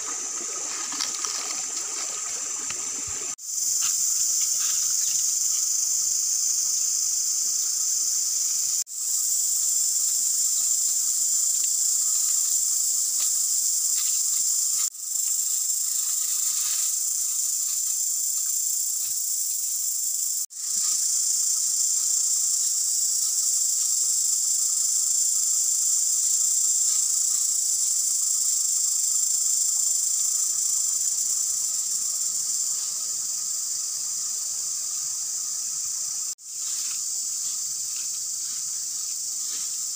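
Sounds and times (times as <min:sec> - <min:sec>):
insects buzzing chorus: 0:00.0 - 0:39.9.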